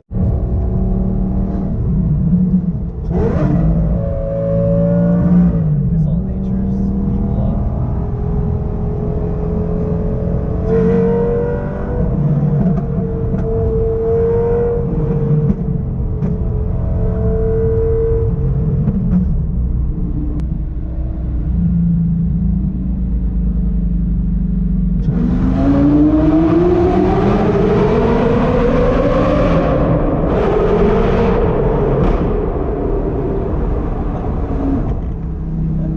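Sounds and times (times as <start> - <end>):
sports car engine accelerating: 0.2 - 35.9.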